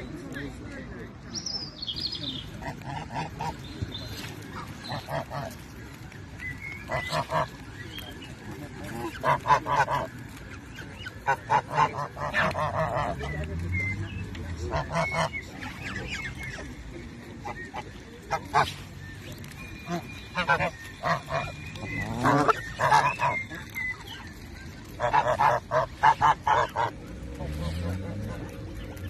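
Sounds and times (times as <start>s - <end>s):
geese honking: 2.4s - 13.6s, 14.6s - 29.0s.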